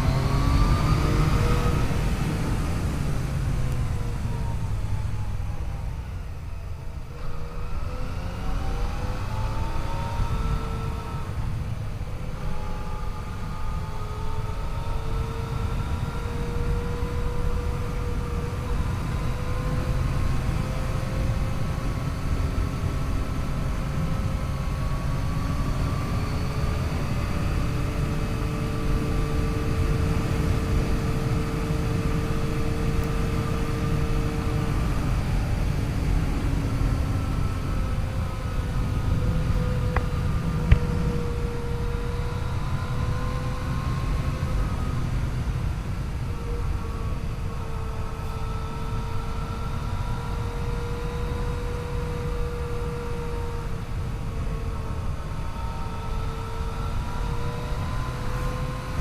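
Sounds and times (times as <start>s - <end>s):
wind and road noise: 0.0s - 59.0s
motorcycle engine running: 7.3s - 59.0s.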